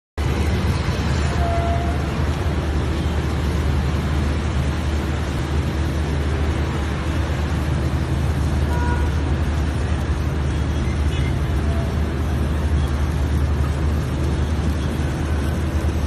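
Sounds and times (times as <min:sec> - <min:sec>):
heavy machinery engine rumble: 0:00.2 - 0:16.0.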